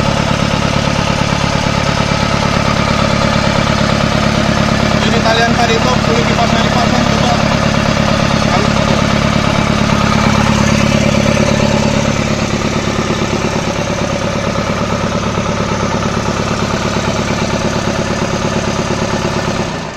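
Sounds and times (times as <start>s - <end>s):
truck engine running: 0.0s - 19.9s.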